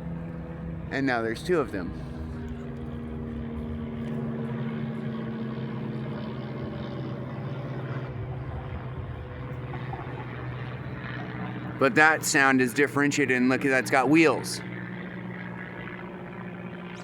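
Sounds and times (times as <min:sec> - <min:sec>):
propeller plane droning: 0:00.0 - 0:17.0.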